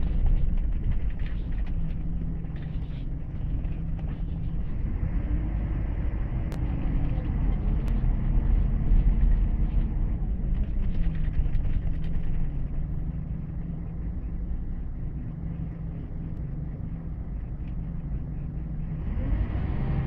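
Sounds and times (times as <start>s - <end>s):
steady hum: 0.0s - 19.3s
diesel engine and road rumble: 0.0s - 20.0s.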